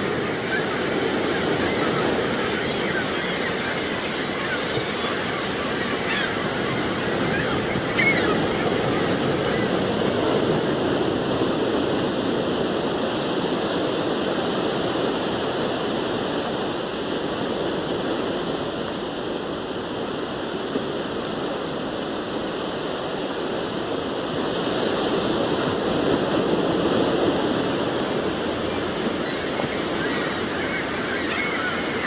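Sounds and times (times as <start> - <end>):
surf washing onto beach: 0.0 - 32.0.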